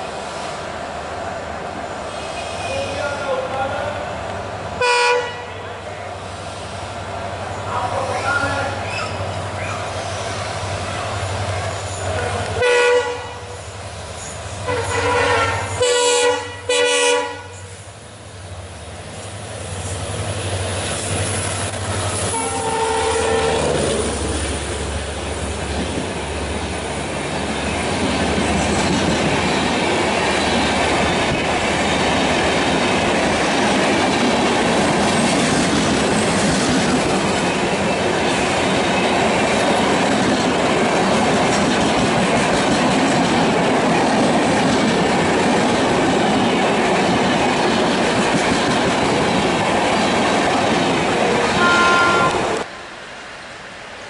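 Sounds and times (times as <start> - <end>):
diesel locomotive engine passing: 0.0 - 54.0
train wheels rumbling on rails: 0.0 - 54.0.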